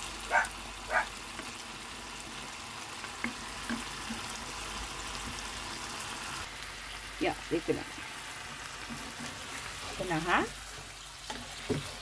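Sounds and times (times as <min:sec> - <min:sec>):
shrimp sizzling in a pan: 0:00.0 - 0:12.0.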